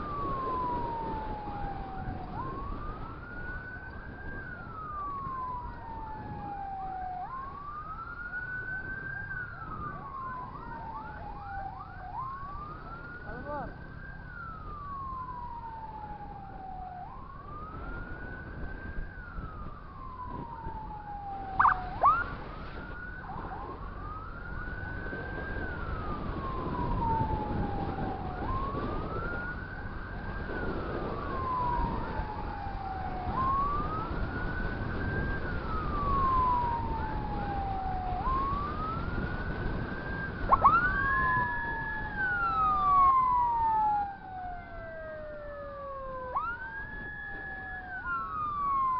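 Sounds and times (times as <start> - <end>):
rising and falling siren: 0.0 - 48.9
road and wind noise: 0.0 - 48.9
sharp upward siren blasts: 0.0 - 48.9
warbling siren: 0.0 - 48.9.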